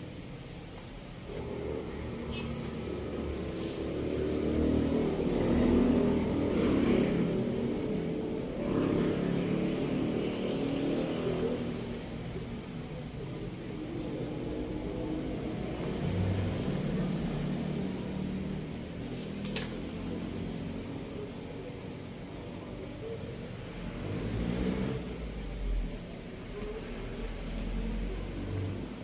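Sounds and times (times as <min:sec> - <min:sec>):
vehicle engine passing by: 0:01.3 - 0:29.0.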